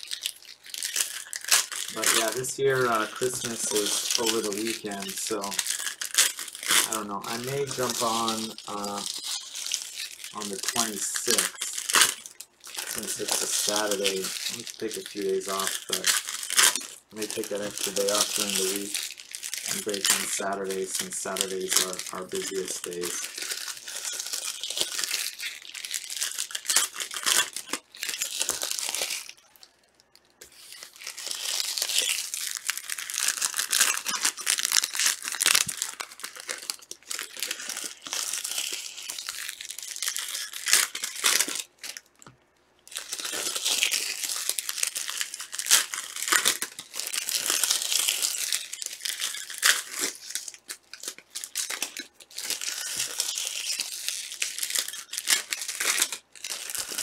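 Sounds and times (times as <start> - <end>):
plastic wrapping crinkling and tearing: 0.0 - 57.0.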